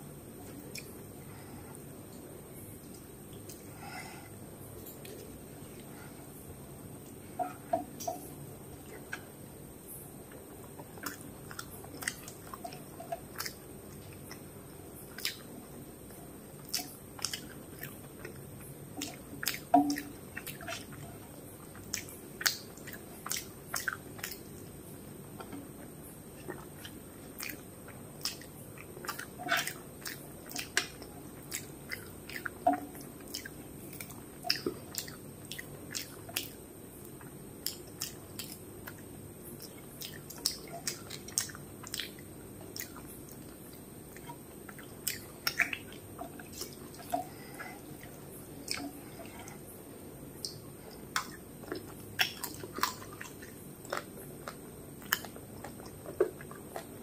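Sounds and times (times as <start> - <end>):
wet chewing and mouth smacks: 0.4 - 1.0, 10.3 - 49.8, 50.4 - 57.0.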